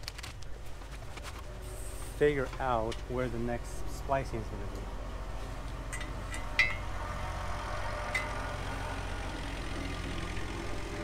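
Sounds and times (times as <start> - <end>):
engine idling: 1.6 - 11.0.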